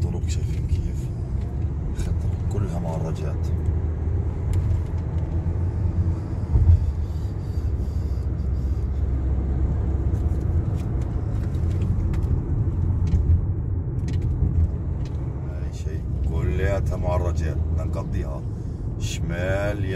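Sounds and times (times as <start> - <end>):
car engine and tyres rumbling: 0.0 - 19.9.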